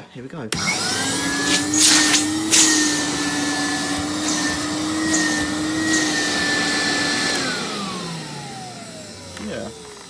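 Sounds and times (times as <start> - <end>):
vacuum cleaner running: 0.5 - 10.0.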